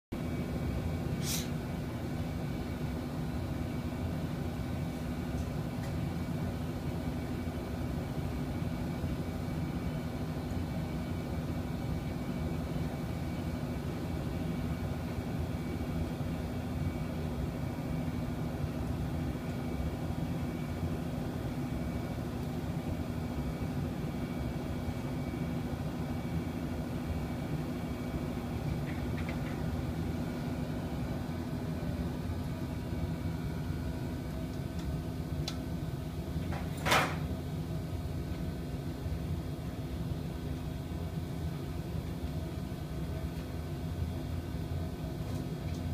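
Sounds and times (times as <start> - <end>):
machinery hum with rumble: 0.2 - 45.9.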